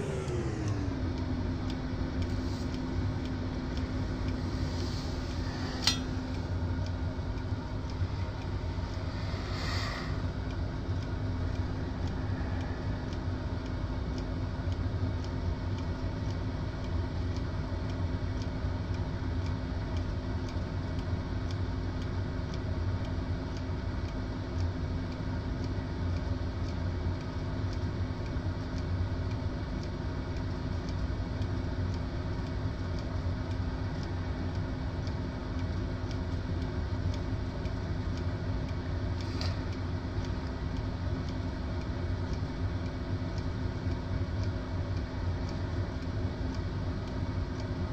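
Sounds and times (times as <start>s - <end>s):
air fryer fan hum: 0.0s - 47.9s
faint regular ticking: 0.0s - 47.9s.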